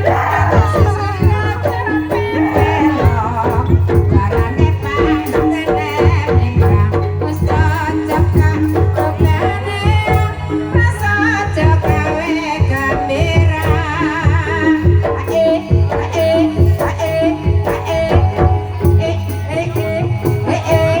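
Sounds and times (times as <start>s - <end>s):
person singing: 0.0s - 21.0s
pitched percussion notes: 0.0s - 21.0s.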